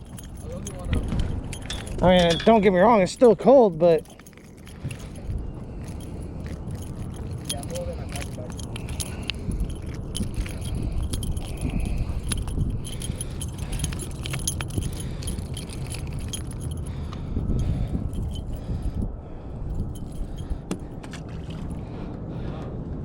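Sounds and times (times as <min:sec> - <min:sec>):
light metallic clinking: 0:00.0 - 0:19.0, 0:19.7 - 0:21.8
steady low rumble: 0:00.0 - 0:23.0.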